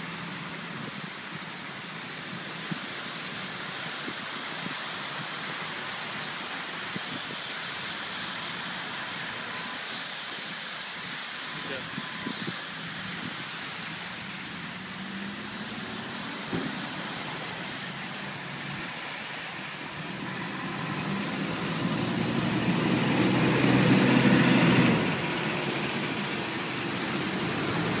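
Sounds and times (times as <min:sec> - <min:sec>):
engine hum: 0:00.0 - 0:28.0
tyres hissing on flooded road: 0:00.0 - 0:28.0.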